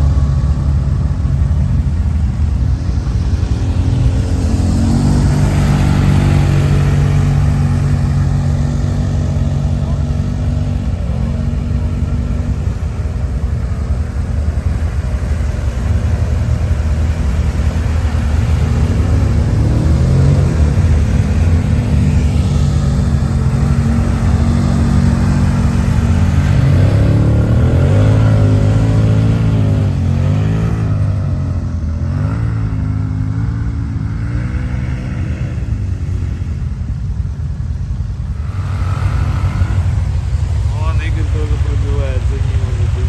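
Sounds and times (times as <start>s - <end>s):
quad bike engine revving: 0.0s - 43.0s.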